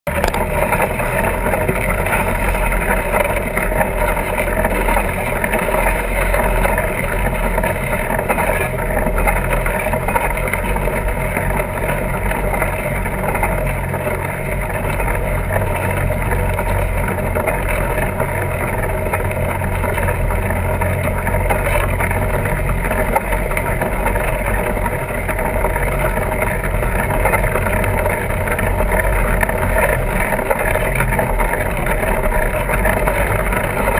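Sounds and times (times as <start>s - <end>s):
steady rumbling drone: 0.1s - 33.9s.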